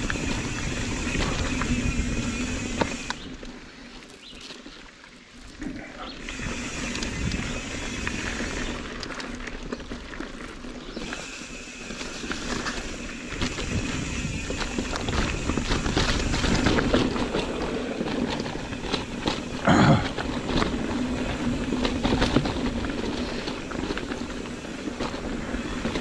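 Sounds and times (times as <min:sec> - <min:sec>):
bike chain and frame rattling: 0:00.0 - 0:03.6, 0:05.4 - 0:26.0
bike tyres on dirt trail: 0:00.0 - 0:26.0.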